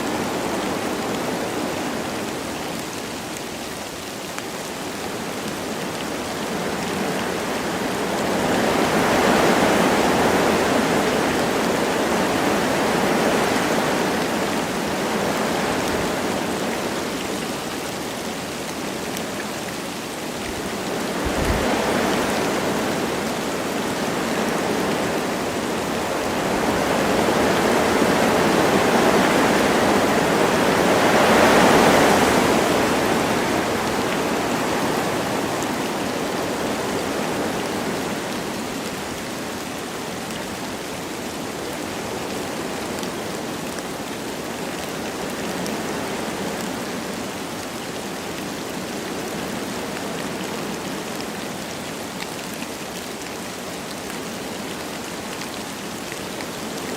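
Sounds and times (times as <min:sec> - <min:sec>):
light rain: 0:00.0 - 0:56.9
wind gusting through trees: 0:00.0 - 0:56.9.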